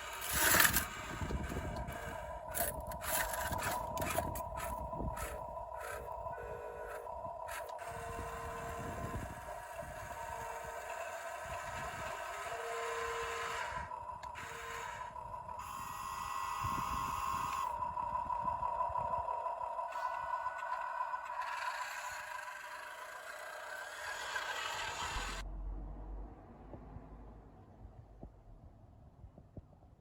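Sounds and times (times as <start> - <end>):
electric motors whining: 0.0 - 25.4.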